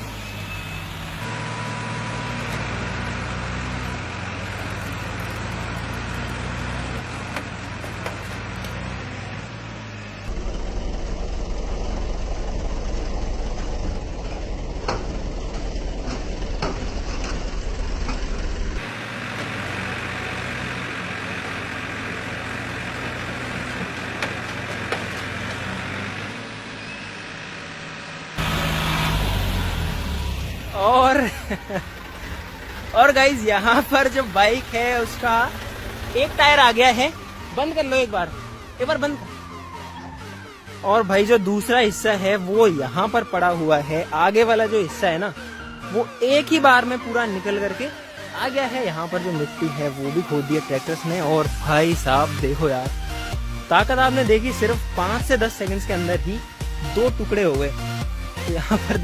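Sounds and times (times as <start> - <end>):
tractor diesel engines rumbling: 0.0 - 59.0.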